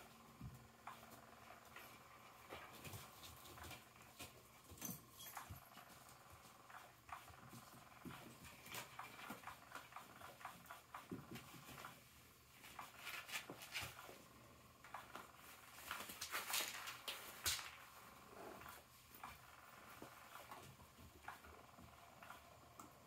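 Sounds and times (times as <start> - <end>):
kittens pattering and scratching: 0.0 - 23.0.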